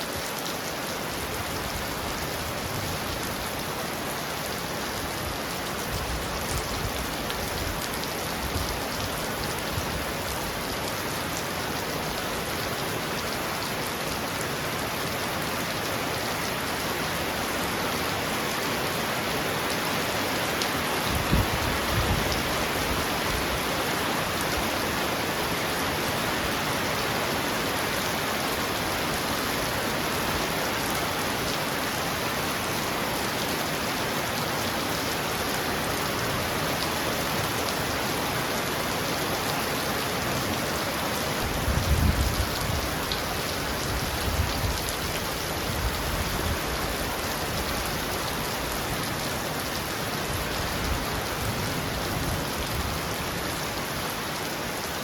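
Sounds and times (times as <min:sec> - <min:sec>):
heavy rain on a roof: 0:00.0 - 0:55.0.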